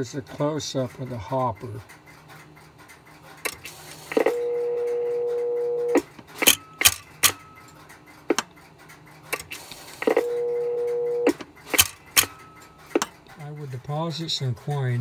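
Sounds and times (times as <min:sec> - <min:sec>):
sharp mechanical clicks: 0:00.1 - 0:05.0, 0:05.9 - 0:15.0.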